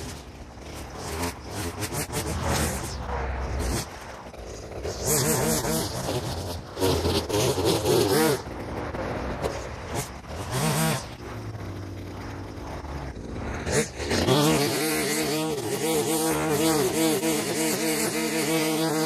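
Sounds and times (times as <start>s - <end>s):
string trimmer idling and revving: 3.6s - 19.0s.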